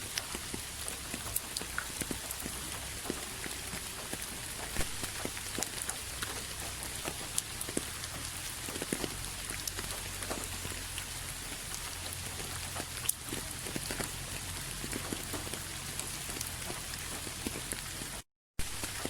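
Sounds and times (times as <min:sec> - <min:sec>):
raindrops ticking on a surface: 0:00.0 - 0:19.0
steady rain hiss: 0:00.0 - 0:19.0.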